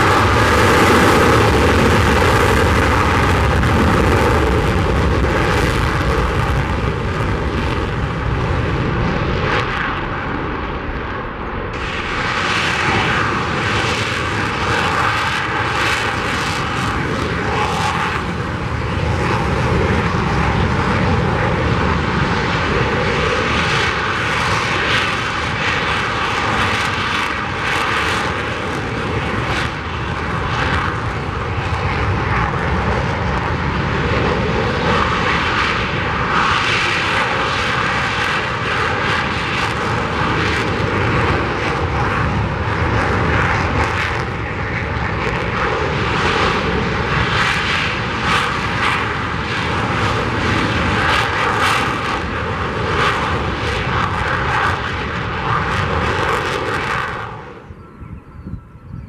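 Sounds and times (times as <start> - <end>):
jet engine rolling on runway: 0.0 - 59.0
jet engines fluttering roar: 0.0 - 59.0.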